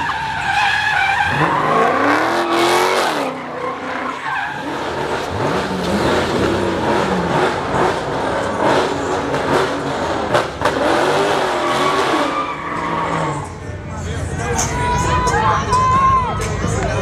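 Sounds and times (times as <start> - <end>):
car engine revving: 0.0 - 14.6
tyres squealing and skidding: 0.0 - 17.0.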